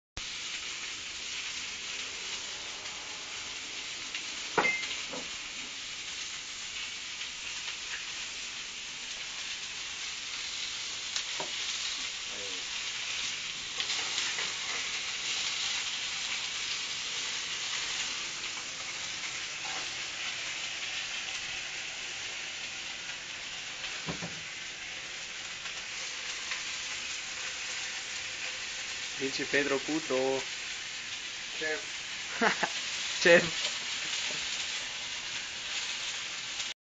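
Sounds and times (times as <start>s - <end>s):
food sizzling in a pan: 0.2s - 36.8s.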